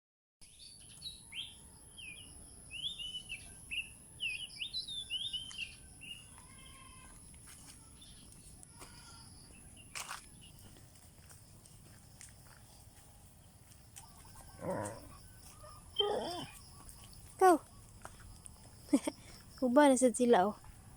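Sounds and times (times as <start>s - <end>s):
birds chirping: 0.5s - 7.2s, 7.8s - 20.6s.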